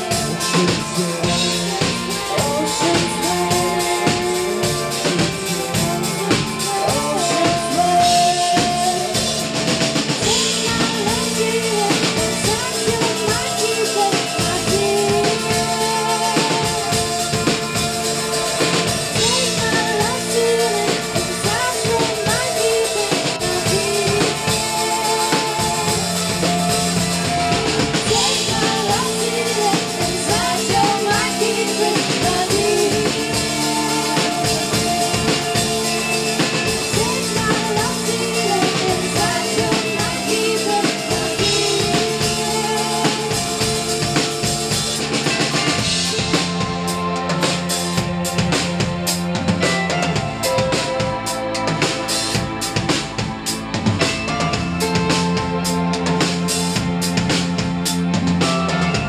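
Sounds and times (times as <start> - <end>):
people singing: 0.0 - 48.3
drum kit: 0.0 - 59.0
live rock band playing: 0.0 - 59.0.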